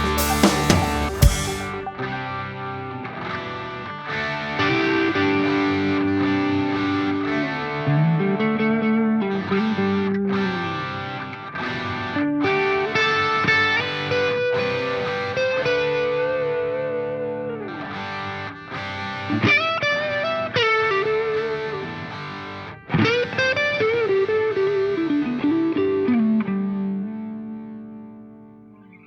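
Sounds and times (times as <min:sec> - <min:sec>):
distorted electric guitar melody: 0:00.0 - 0:29.0.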